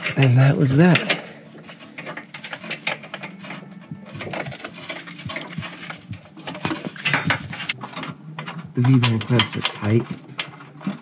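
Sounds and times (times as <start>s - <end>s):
metal tools clinking: 0.0s - 11.0s.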